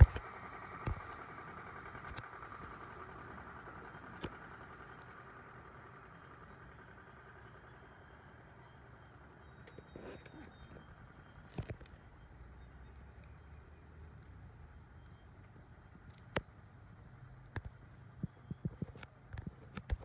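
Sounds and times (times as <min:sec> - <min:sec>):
faint bird chirps: 0:00.0 - 0:15.4, 0:16.1 - 0:19.0.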